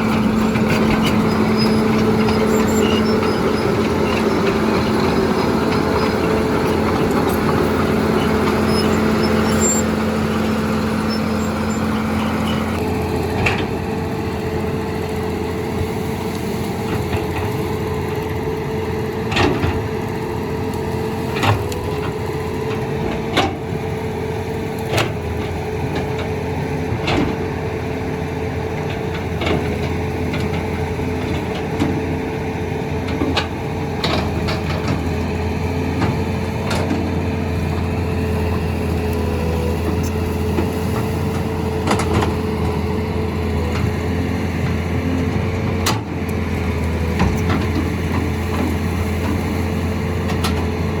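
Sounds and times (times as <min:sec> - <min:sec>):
heavy machine engine running: 0:00.0 - 0:51.0.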